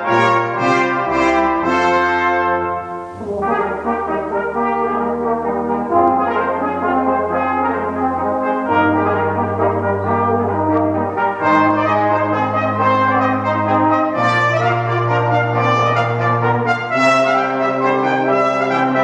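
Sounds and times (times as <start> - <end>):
trumpets playing: 0.0 - 19.0
tuba holding bass notes: 0.0 - 19.0.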